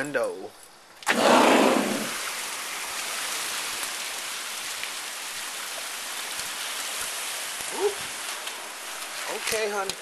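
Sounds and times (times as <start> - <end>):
heavy rain pouring: 1.1 - 10.0.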